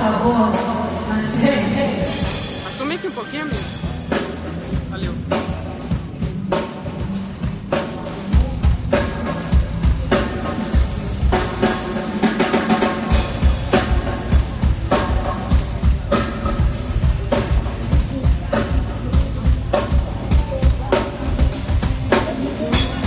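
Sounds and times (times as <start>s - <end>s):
pop band playing through speakers: 0.0s - 23.0s.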